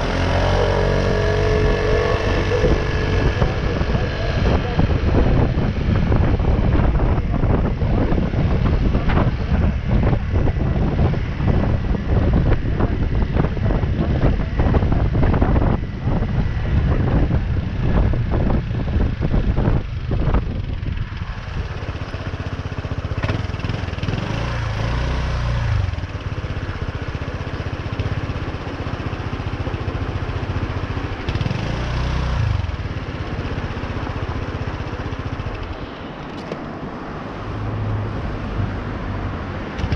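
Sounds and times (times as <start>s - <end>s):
motorcycle engine: 0.0s - 36.8s
wind buffeting microphone: 0.0s - 39.9s.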